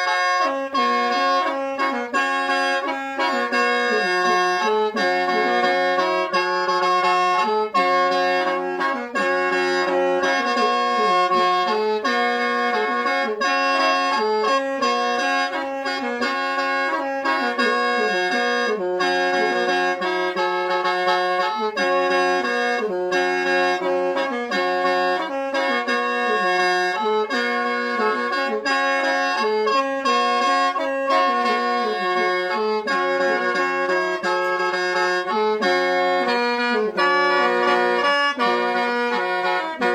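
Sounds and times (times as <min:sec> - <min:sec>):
mouth organ melody with drone: 0:00.0 - 0:39.9.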